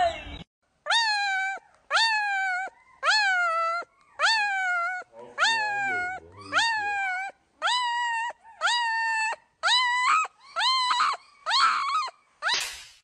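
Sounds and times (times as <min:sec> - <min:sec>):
puppy whining yelps: 0:00.0 - 0:12.8.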